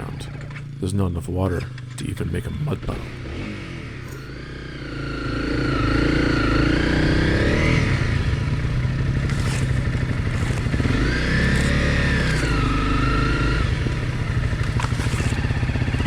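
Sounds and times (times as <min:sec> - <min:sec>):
off-road engine revving: 0:00.0 - 0:16.0.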